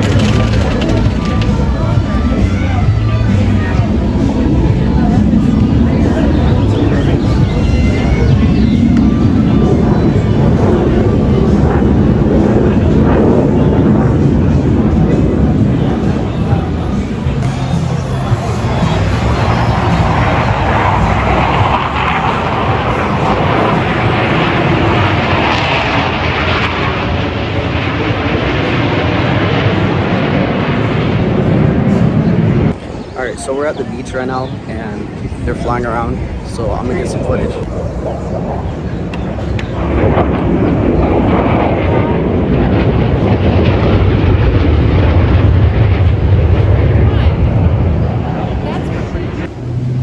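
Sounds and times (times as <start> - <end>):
jet aircraft roaring overhead: 0.0 - 50.0.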